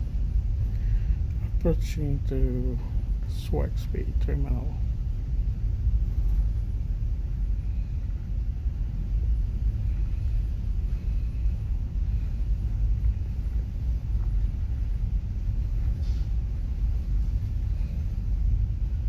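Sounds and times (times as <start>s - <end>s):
ferry engines rumbling: 0.0s - 19.0s.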